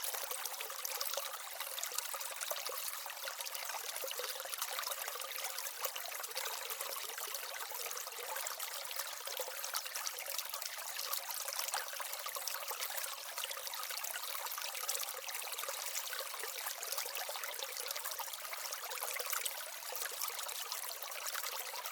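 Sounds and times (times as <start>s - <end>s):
water trickling and splashing: 0.0s - 21.9s.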